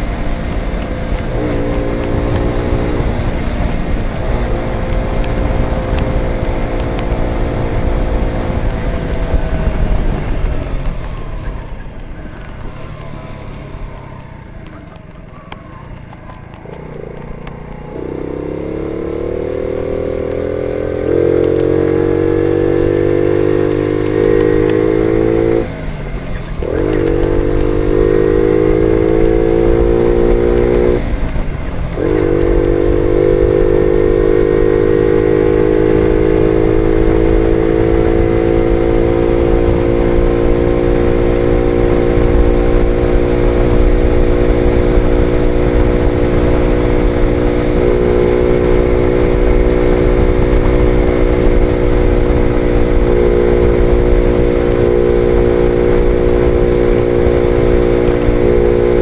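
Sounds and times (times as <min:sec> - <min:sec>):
moped engine running: 0:00.0 - 0:59.0.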